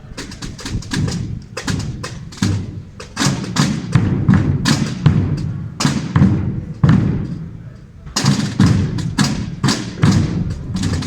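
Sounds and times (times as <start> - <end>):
snare drums rapid strokes: 0.0 - 7.6, 8.2 - 11.0
bass drums thudding: 0.0 - 11.0.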